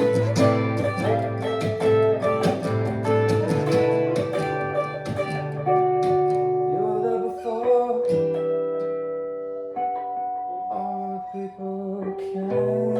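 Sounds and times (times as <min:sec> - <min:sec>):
acoustic guitar strumming: 0:00.0 - 0:12.9.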